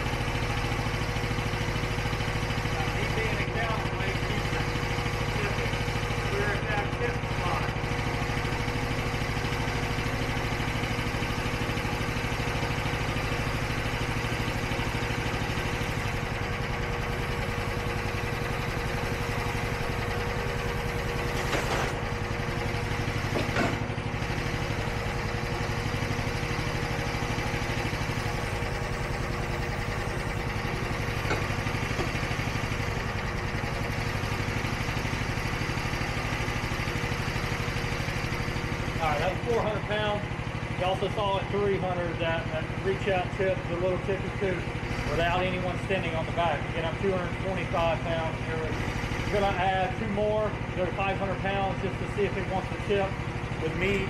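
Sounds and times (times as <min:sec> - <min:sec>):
skid steer engine running: 0:00.0 - 0:54.0.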